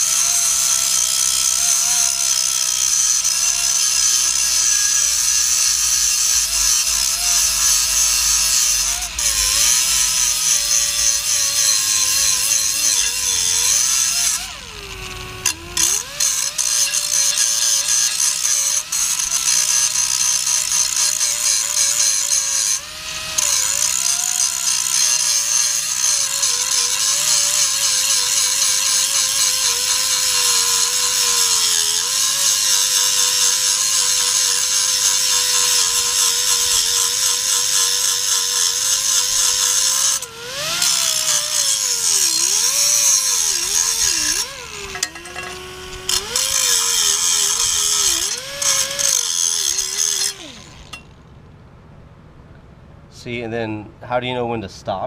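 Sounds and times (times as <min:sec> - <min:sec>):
angle grinder grinding steel: 0:00.0 - 0:51.2.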